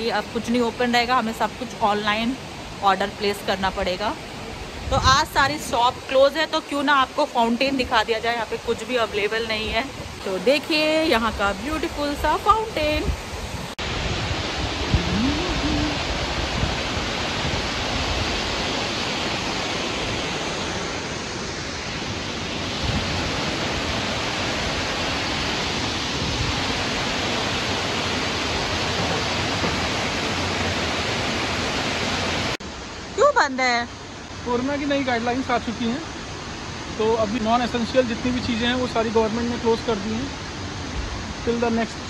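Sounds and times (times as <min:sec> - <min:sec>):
fountain water falling and splashing: 0:05.1 - 0:13.1, 0:13.7 - 0:21.4, 0:22.5 - 0:42.0.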